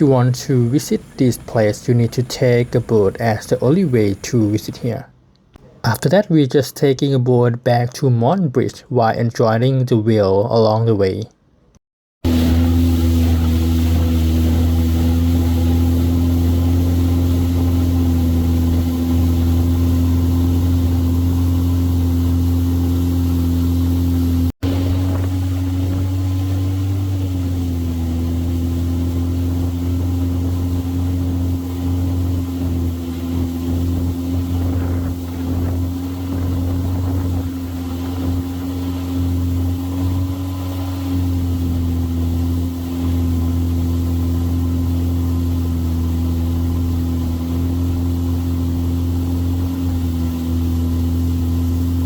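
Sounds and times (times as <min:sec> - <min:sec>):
boat engine droning: 0:00.0 - 0:05.9, 0:12.2 - 0:52.0.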